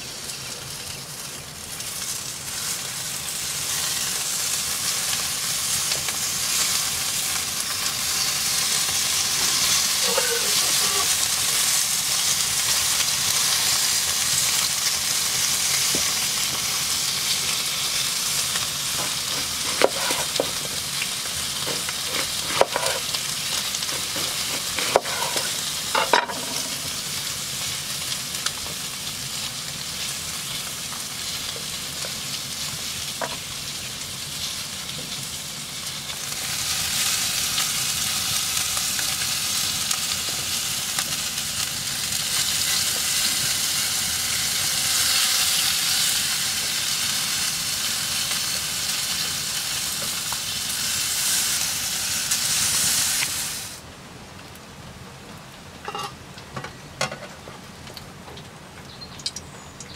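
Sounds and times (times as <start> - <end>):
bacon sizzling in a pan: 0.0 - 53.8.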